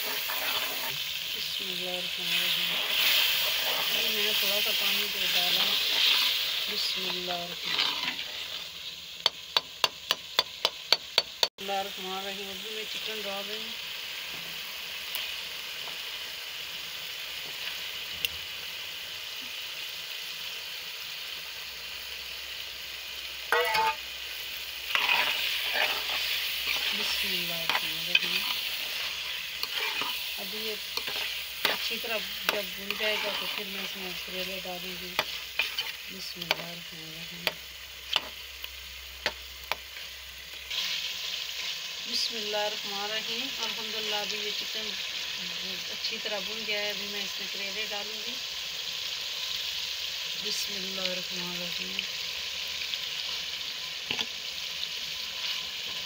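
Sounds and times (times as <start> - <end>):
chicken sizzling in pot: 0.0 - 56.0.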